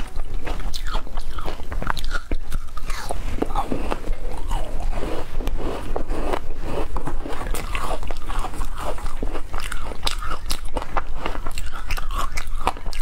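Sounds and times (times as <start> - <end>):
crunching and chewing ice: 0.0 - 13.0.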